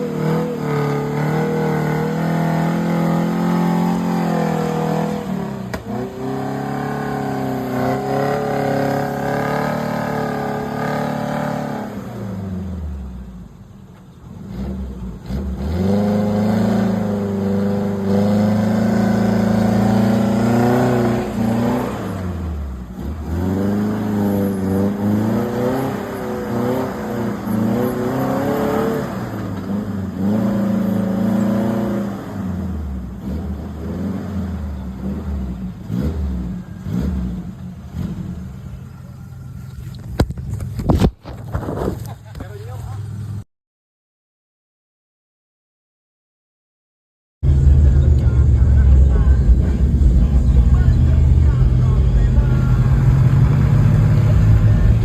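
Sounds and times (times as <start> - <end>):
vehicle engine revving: 0.0 - 13.6, 14.2 - 42.1, 47.4 - 55.0.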